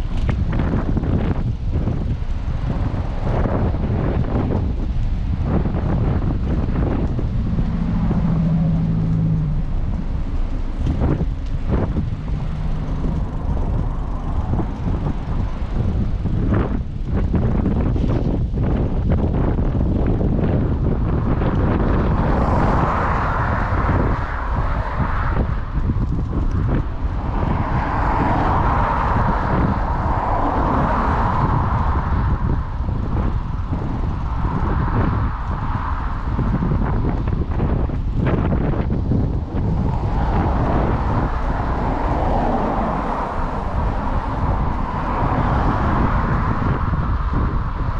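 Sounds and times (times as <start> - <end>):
car passing: 0.0 - 47.9
low vehicle hum: 0.0 - 47.9
wind rushing over microphone: 0.0 - 47.9.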